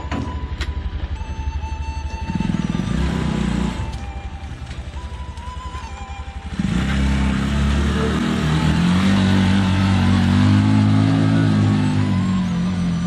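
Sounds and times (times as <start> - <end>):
motor tricycle engine revving: 0.0 - 13.0.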